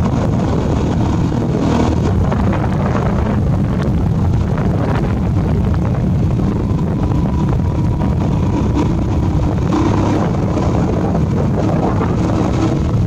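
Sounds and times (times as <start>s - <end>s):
motorbike engine running: 0.0s - 13.0s
wind noise on microphone: 0.0s - 13.0s.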